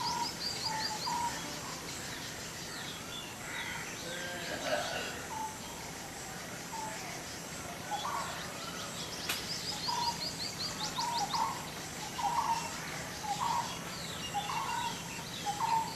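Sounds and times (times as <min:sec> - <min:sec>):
low bird calls: 0:00.0 - 0:06.1, 0:07.8 - 0:15.9
steady hiss: 0:00.0 - 0:15.9.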